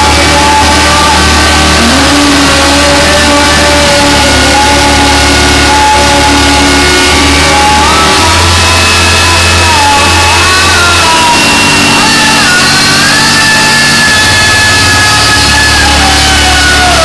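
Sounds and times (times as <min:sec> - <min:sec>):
guitar notes bending: 0:00.0 - 0:17.0
loud electric guitar droning: 0:00.0 - 0:17.0.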